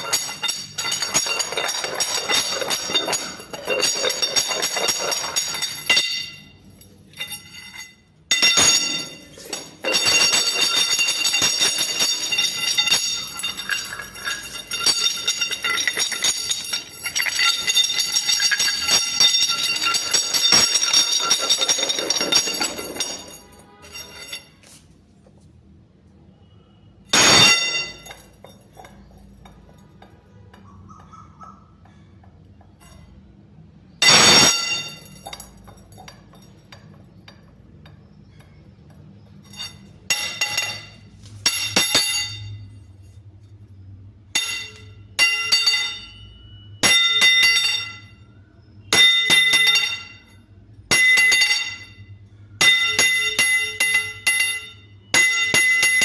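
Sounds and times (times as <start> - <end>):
steel rods striking metal: 0.0 - 24.8, 27.1 - 33.3, 33.9 - 43.3, 44.3 - 56.0.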